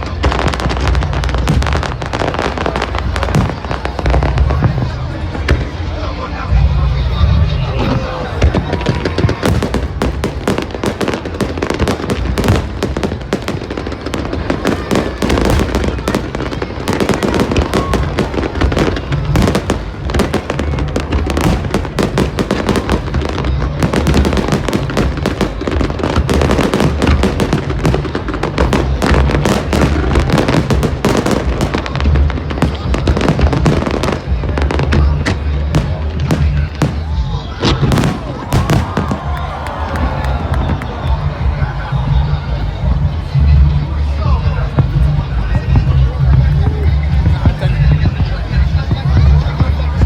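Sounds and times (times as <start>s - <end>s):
fireworks crackling and popping: 0.0s - 50.0s
fireworks low booms: 0.0s - 50.0s.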